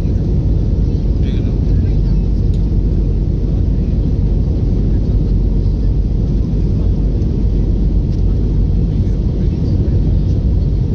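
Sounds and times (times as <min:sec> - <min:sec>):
airplane engine rumble in flight: 0:00.0 - 0:10.9.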